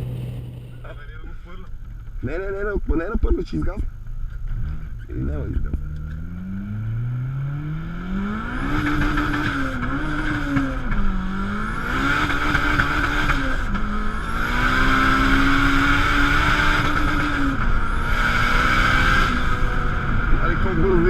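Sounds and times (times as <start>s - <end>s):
car engine revving hard: 0.0s - 1.0s, 4.3s - 21.0s.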